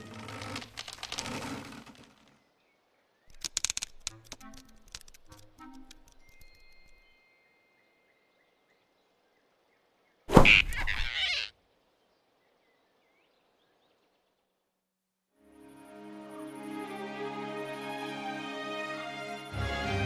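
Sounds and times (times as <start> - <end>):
faint forest ambience: 0.0 - 20.0.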